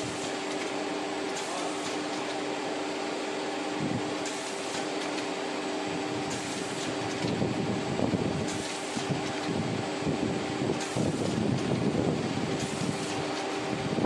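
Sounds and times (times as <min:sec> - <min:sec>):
packing machine hum and hiss: 0:00.0 - 0:14.0.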